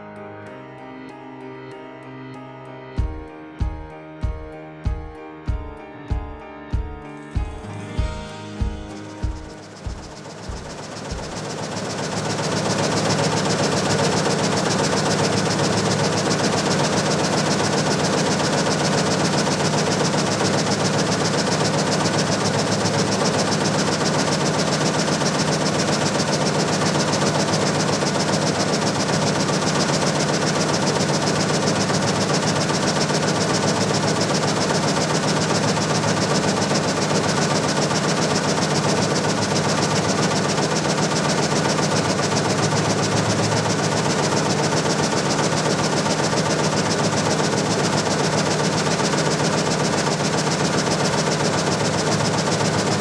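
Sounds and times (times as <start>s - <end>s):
frame saw cutting wood: 7.6s - 53.0s.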